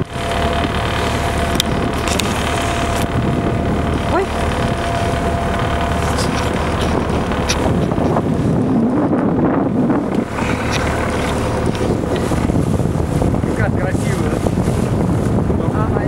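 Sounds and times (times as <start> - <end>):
boat engine drone: 0.0 - 16.0
sea rushing past hull: 0.0 - 16.0
wind buffeting microphone: 0.0 - 16.0.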